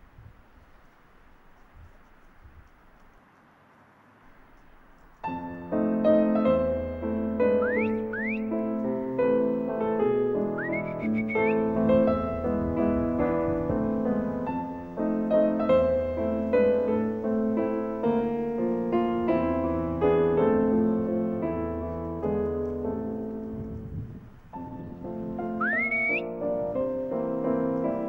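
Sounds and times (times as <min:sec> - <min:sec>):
slow piano melody: 0:05.2 - 0:28.0.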